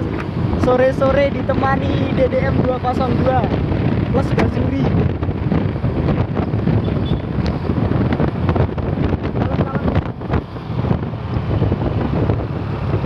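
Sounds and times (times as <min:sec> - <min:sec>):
low vehicle rumble: 0:00.0 - 0:13.0
wind buffeting microphone: 0:00.0 - 0:13.0.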